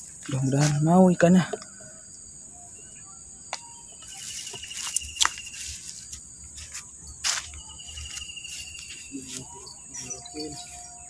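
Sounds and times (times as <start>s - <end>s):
insects calling: 0.0s - 11.0s.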